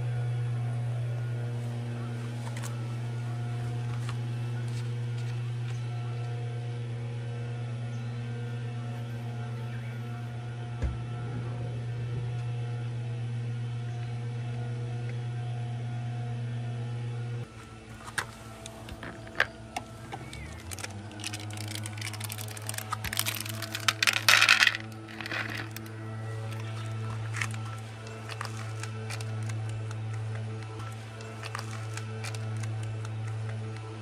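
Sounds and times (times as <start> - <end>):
grass cutting machine drone: 0.0 - 34.0.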